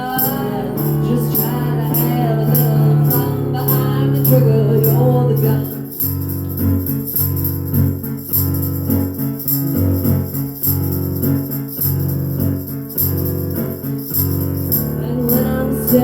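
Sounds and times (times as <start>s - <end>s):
tambourine jingling: 0.0s - 16.0s.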